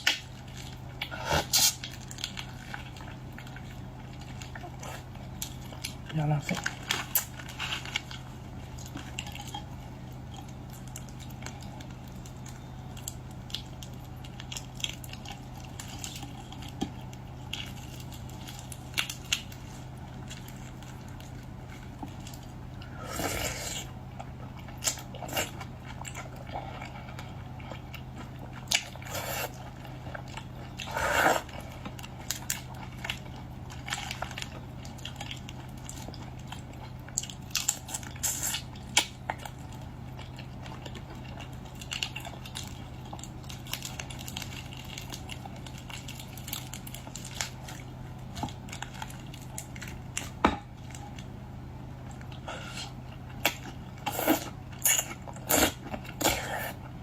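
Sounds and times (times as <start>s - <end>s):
crunching and wet chewing: 0.0s - 57.0s
steady low hum: 0.0s - 57.0s.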